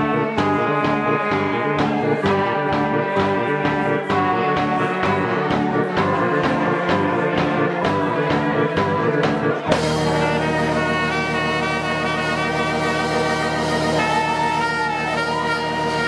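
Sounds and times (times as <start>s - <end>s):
funk band playing: 0.0s - 16.0s.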